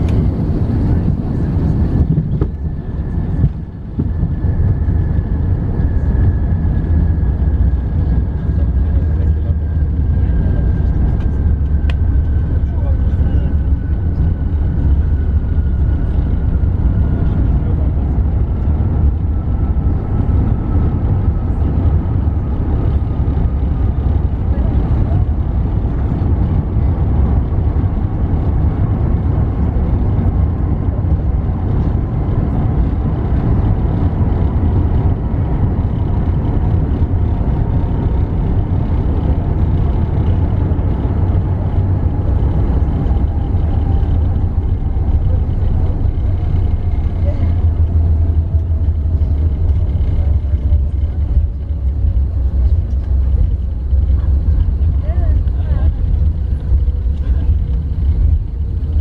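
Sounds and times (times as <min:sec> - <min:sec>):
airliner rolling on runway rumble: 0:00.0 - 0:59.0.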